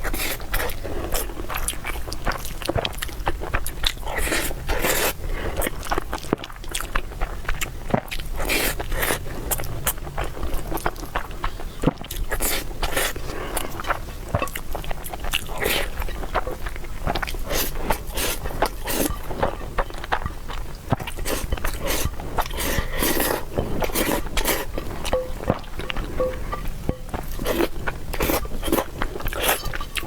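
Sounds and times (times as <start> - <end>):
person chewing and lip smacking: 0.0 - 30.0.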